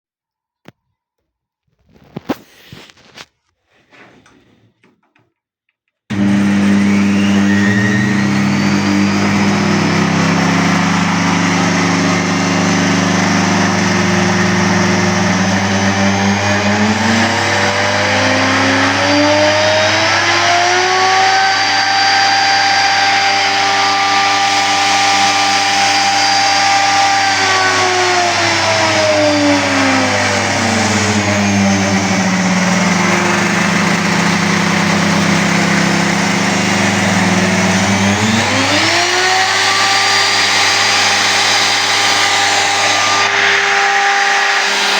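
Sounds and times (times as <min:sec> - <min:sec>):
electric router whining: 0:06.1 - 0:44.9.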